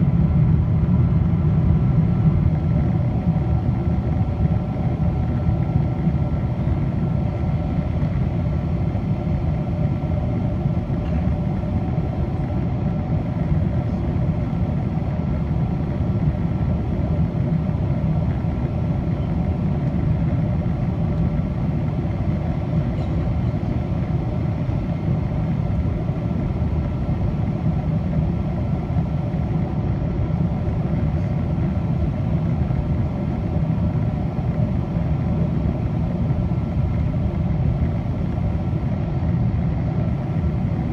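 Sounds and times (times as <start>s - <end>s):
airflow and jet engine roar: 0.0s - 40.9s.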